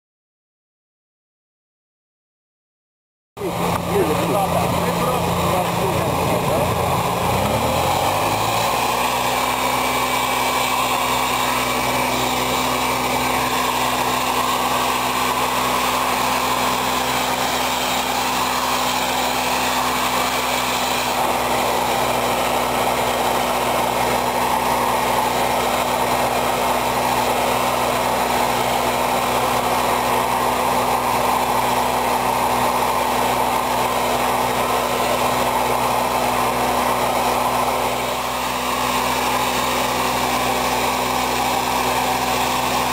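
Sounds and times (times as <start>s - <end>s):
blower rushing air and stone: 3.4s - 42.9s
engine hum: 3.4s - 42.9s.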